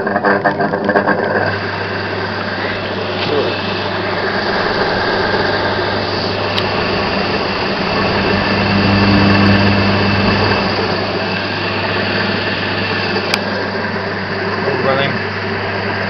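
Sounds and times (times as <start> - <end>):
electric motor humming and whirring: 0.0 - 16.0.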